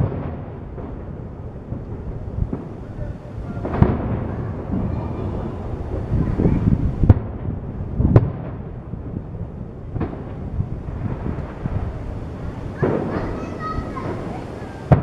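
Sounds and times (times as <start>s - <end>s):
low rumble: 0.0s - 12.8s
fireworks bursting: 0.0s - 15.0s.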